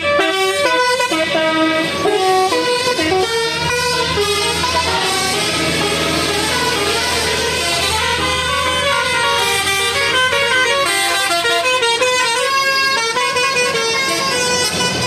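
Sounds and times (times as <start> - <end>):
multi-tone musical vehicle horn: 0.0 - 15.0.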